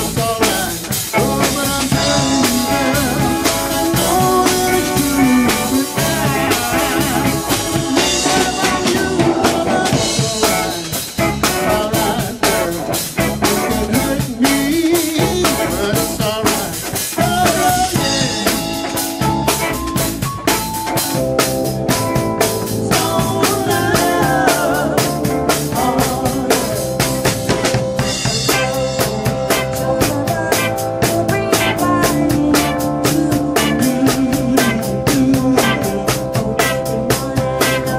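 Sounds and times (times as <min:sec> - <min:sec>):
live band playing: 0:00.0 - 0:37.9.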